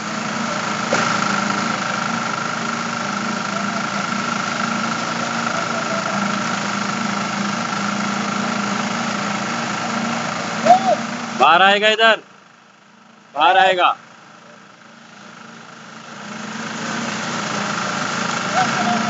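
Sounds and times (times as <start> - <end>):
machinery whining over hum: 0.0 - 19.0.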